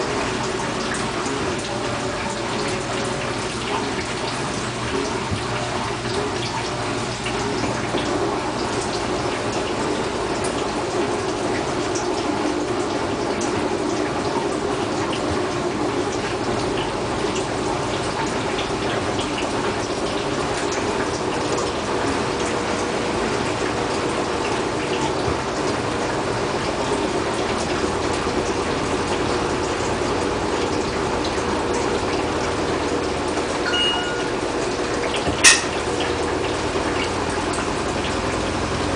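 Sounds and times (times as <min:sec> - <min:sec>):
washing machine water swishing: 0:00.0 - 0:38.9.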